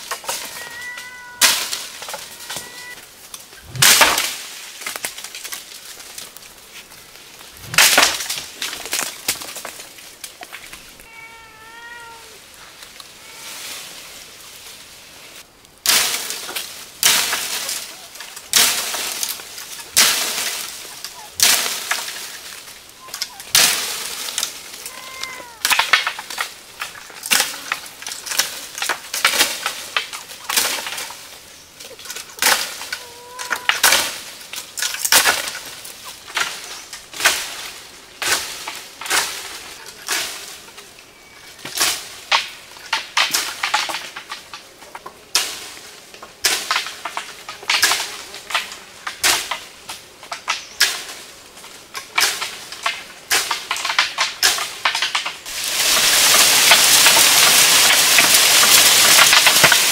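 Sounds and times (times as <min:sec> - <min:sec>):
stick whacking leafy branches: 0:00.0 - 0:11.1, 0:12.8 - 0:59.9.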